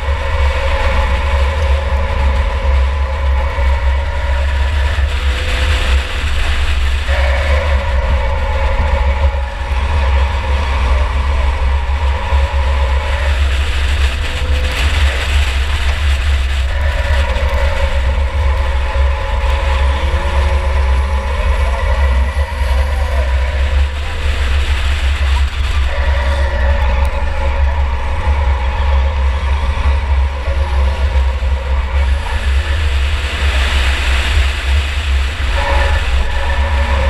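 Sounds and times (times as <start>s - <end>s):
heavy low rumble: 0.0s - 37.0s
race car engine: 0.0s - 37.0s.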